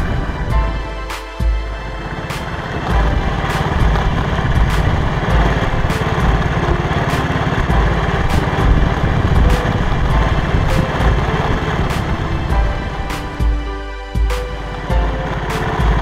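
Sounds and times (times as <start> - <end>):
background music beat: 0.0 - 16.0
motorcycle engine running: 1.4 - 13.6, 14.6 - 16.0.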